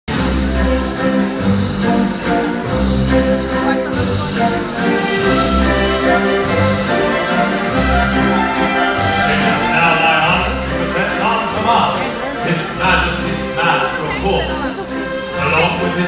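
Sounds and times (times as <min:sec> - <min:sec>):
orchestral show music: 0:00.1 - 0:16.0.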